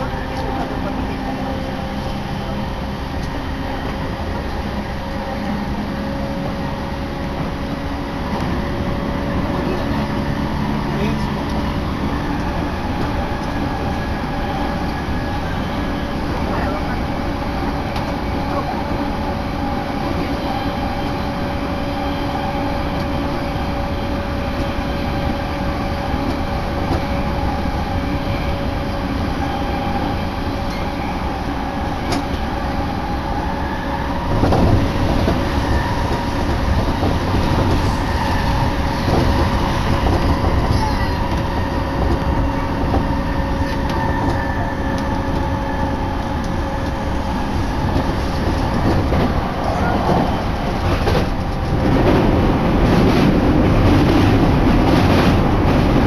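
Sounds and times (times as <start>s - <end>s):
constant whine: 0.0s - 54.7s
train wheels rumbling on track: 0.0s - 56.0s.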